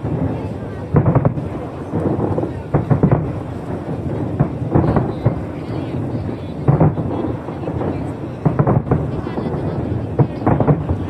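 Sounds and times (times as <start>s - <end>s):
fireworks booming: 0.0s - 11.0s.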